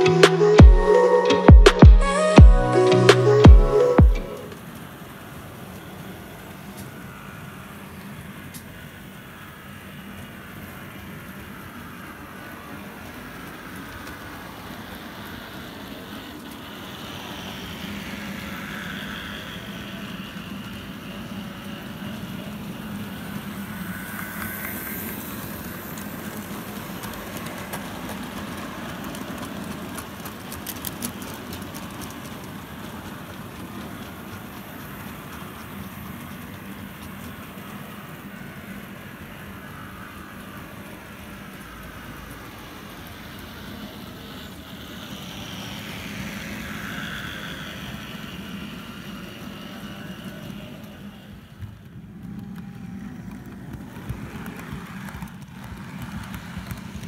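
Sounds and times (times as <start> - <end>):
model train rumbling on rails: 4.4 - 57.0.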